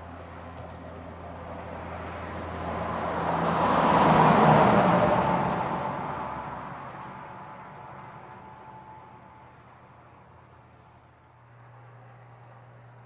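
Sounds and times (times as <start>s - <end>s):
heavy truck passing: 0.0s - 13.0s.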